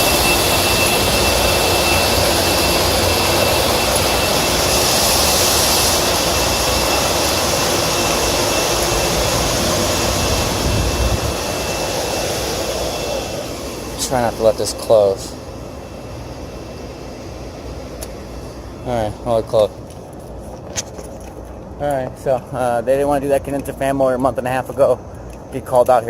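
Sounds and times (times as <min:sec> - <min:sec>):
high whine: 0:00.0 - 0:26.0
hvac whoosh and hum: 0:00.0 - 0:26.0.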